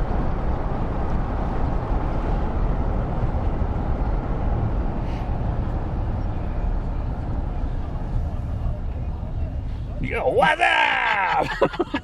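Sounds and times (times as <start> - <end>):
steady engine rumble: 0.0 - 12.0.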